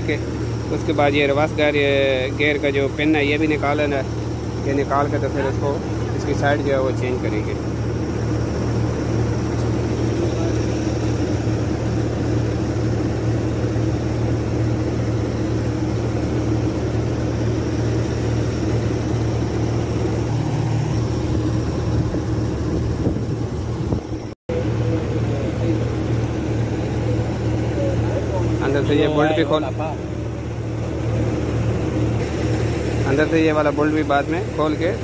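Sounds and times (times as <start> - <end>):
low mechanical drone: 0.0 - 35.0.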